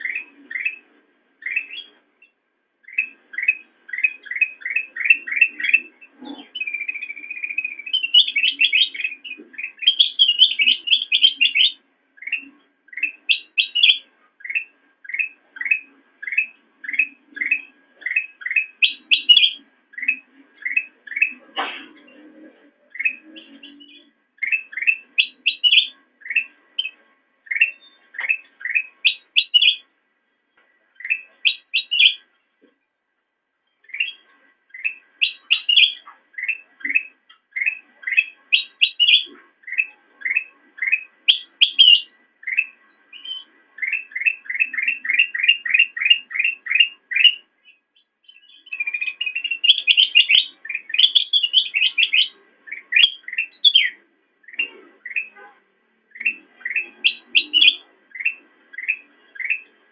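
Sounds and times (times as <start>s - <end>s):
bulbul chirping: 0.0s - 22.2s, 22.9s - 29.9s, 31.0s - 32.3s, 33.8s - 55.5s, 56.1s - 59.7s.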